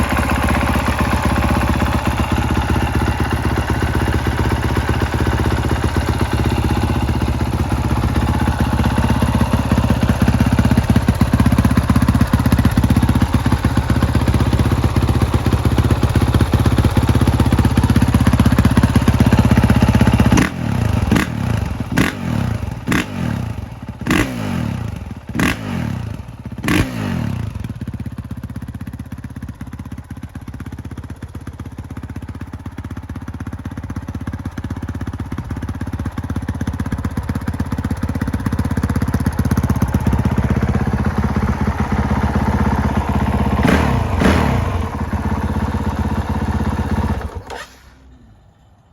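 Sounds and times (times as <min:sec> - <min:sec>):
motorcycle engine revving: 0:00.0 - 0:29.2, 0:34.3 - 0:48.4.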